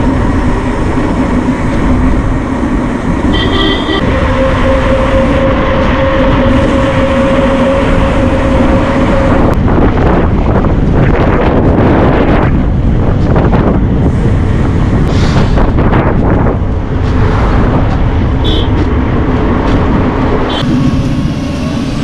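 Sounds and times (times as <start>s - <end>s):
road and vehicle noise: 0.0s - 22.0s
wind rushing over microphone: 0.0s - 22.0s.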